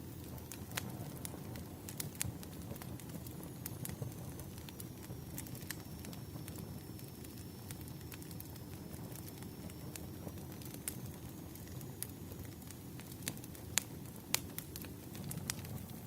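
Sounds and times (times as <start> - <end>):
campfire flame rushing: 0.0 - 16.0
wood crackling and popping: 0.0 - 16.0.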